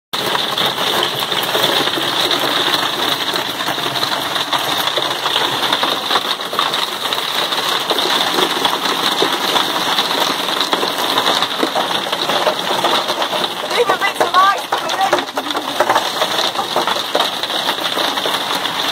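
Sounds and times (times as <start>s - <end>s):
hail and rain pelting a roof: 0.2s - 18.9s.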